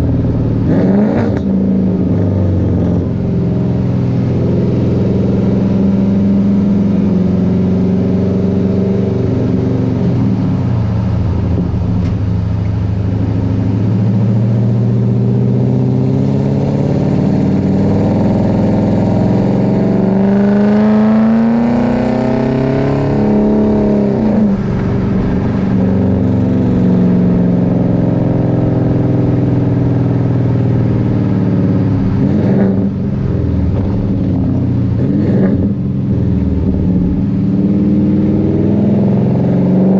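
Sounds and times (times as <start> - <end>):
truck engine exhaust drone: 0.0 - 39.9.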